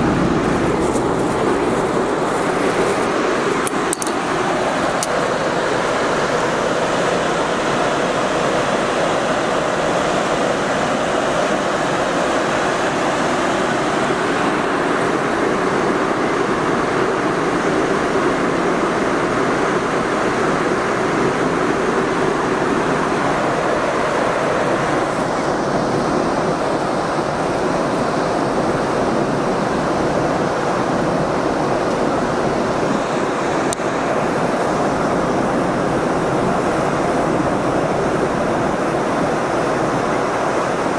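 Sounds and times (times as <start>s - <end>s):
ferry rushing noise: 0.0s - 40.9s.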